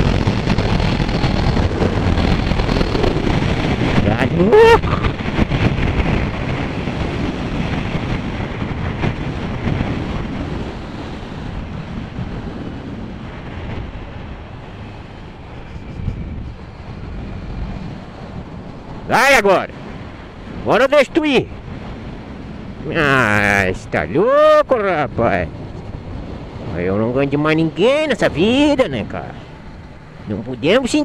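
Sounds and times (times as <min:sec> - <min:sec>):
motorcycle road and engine noise: 0:00.0 - 0:31.0
wind rushing over helmet microphone: 0:00.0 - 0:31.0.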